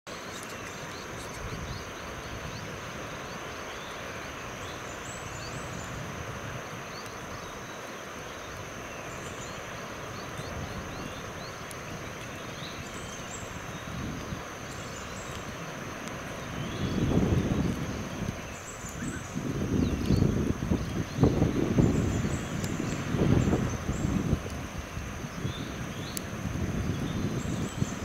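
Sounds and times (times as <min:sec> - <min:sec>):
steady hiss: 0:00.1 - 0:28.0.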